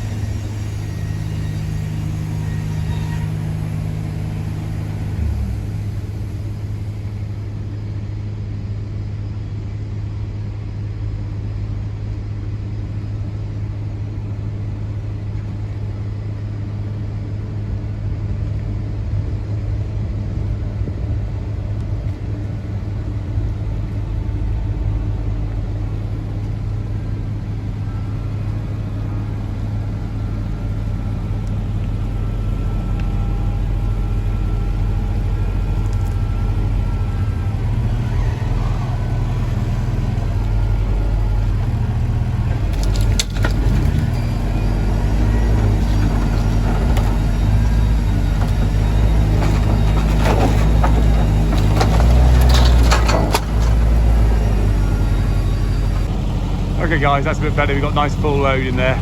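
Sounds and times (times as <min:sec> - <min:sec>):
forklift engine humming: 0:00.0 - 0:59.0.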